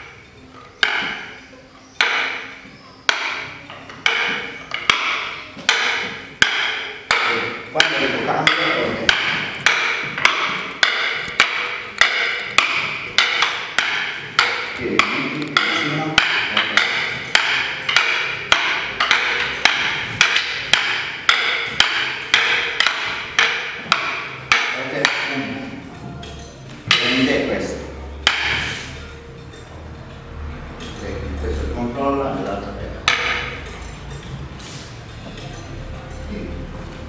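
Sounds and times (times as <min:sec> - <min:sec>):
wooden sticks clacking together: 0:00.0 - 0:31.6, 0:32.4 - 0:36.3.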